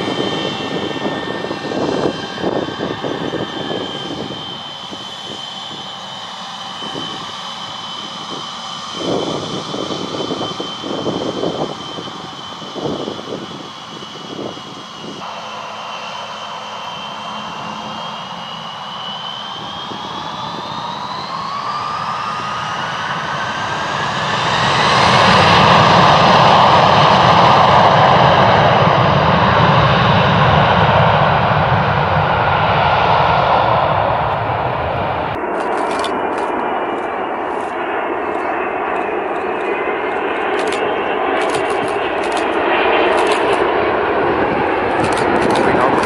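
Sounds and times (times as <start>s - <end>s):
jet engine roar: 0.0s - 46.0s
jet engine whine rising: 0.0s - 46.0s.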